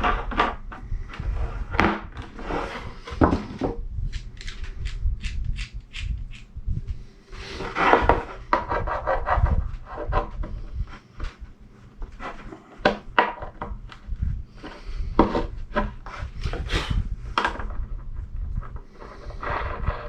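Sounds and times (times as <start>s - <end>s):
wood rubbing and scraping: 0.0s - 20.0s.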